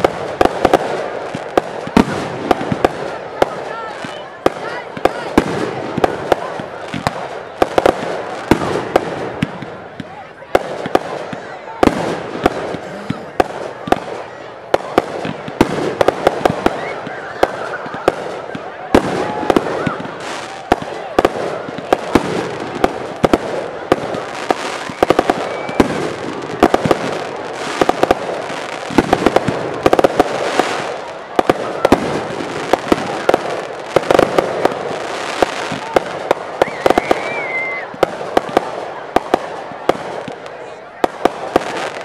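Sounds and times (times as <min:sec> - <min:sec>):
fireworks bangs: 0:00.0 - 0:42.0
fireworks crackling: 0:00.0 - 0:42.0.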